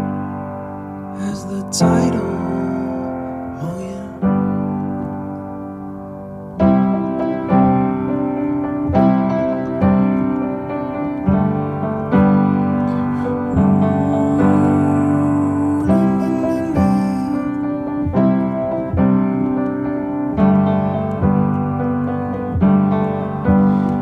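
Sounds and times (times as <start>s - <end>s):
piano playing sustained chords: 0.0s - 24.0s.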